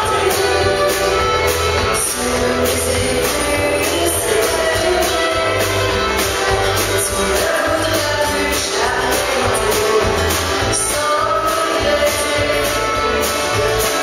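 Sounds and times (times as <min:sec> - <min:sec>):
woman singing into a microphone: 0:00.0 - 0:06.1, 0:06.9 - 0:14.0
backing music with percussion: 0:00.0 - 0:14.0.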